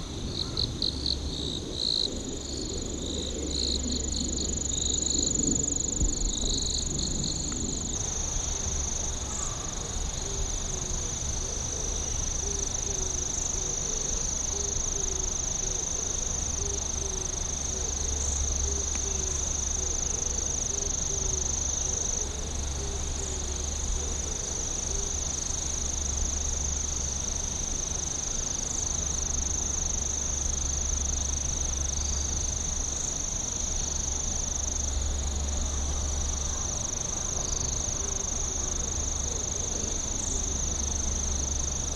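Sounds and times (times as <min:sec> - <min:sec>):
crickets trilling: 0:00.0 - 0:41.9
low repeating insect call: 0:00.0 - 0:41.9.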